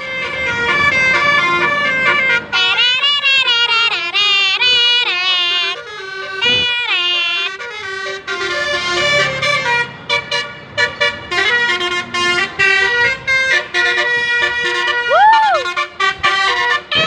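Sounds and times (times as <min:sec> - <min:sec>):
multi-tone bus horn tune: 0:00.0 - 0:17.0.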